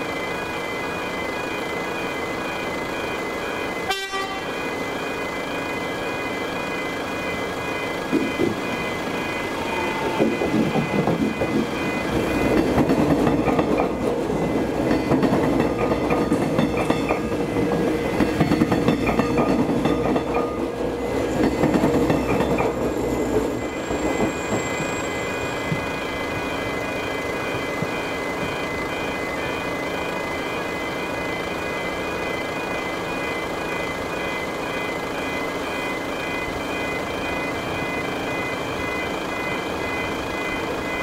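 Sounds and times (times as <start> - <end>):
level crossing alarm bells: 0.0 - 41.0
train rumble and wheel clatter: 0.0 - 41.0.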